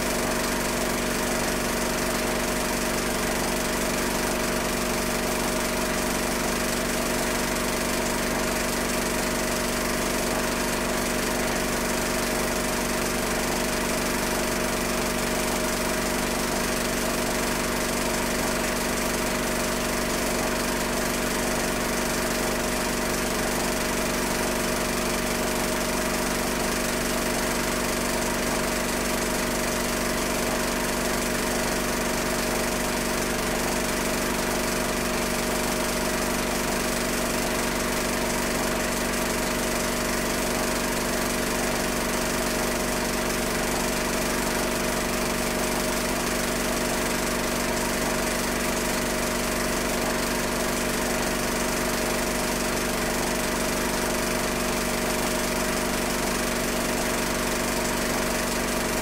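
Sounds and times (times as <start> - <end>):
film projector motor whirring: 0.0 - 59.0.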